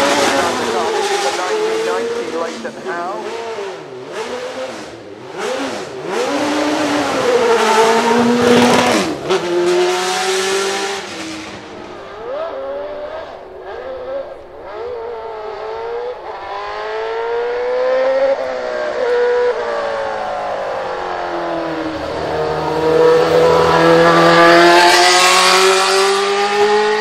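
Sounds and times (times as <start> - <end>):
racing car engine revving: 0.0 - 27.0.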